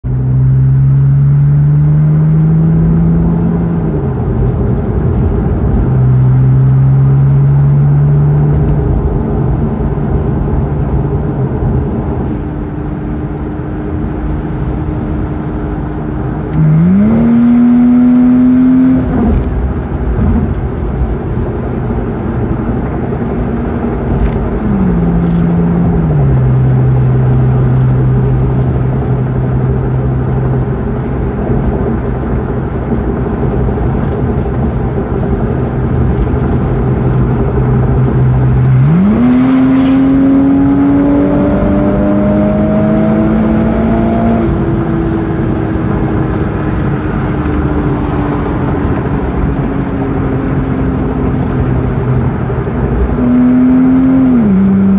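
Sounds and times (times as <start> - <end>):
car engine accelerating: 0.0 - 54.9
tyre and wind rumble: 2.4 - 54.9.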